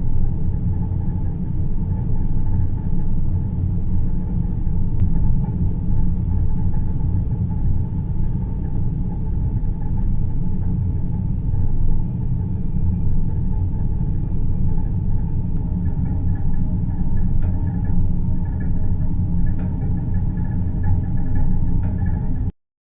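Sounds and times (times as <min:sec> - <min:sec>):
deep rumbling drone: 0:00.0 - 0:22.5
faint hum: 0:00.0 - 0:22.5.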